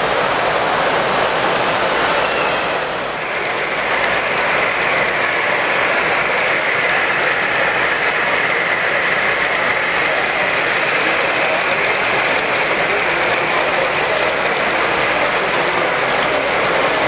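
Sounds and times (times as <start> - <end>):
high steady whine: 0.0 - 17.0
model train running: 0.0 - 17.0.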